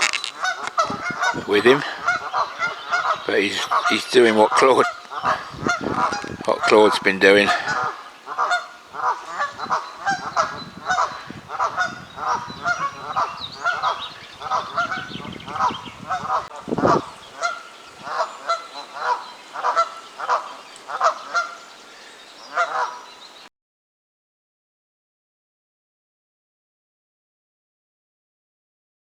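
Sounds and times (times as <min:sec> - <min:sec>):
geese honking: 0:00.0 - 0:23.3.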